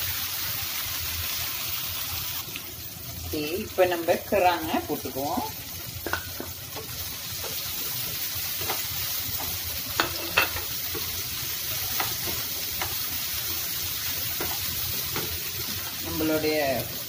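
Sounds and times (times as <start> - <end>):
shellfish sizzling in oil: 0.0 - 17.0.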